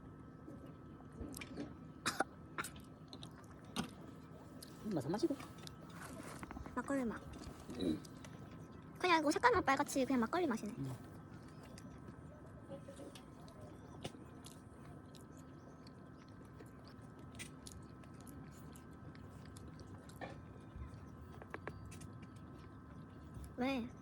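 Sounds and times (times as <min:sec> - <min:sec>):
faint steady hum: 0:00.0 - 0:24.0
people chewing: 0:00.5 - 0:24.0.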